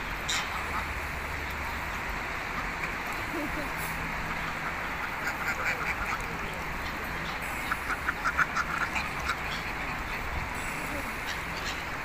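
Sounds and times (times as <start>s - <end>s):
ducks quacking: 0.0s - 1.8s, 2.4s - 12.0s.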